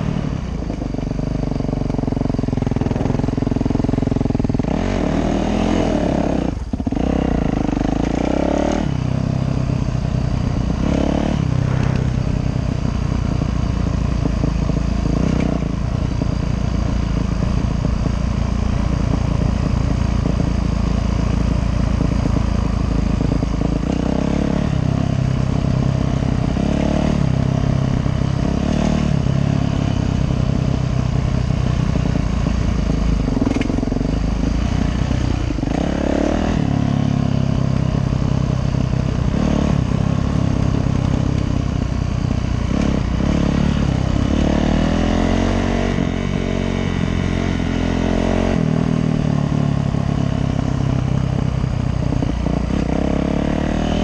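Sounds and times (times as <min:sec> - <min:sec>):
dirt bike engine revving: 0:01.6 - 0:30.7, 0:31.9 - 0:38.1, 0:39.0 - 0:41.4, 0:42.6 - 0:49.2, 0:52.1 - 0:54.0.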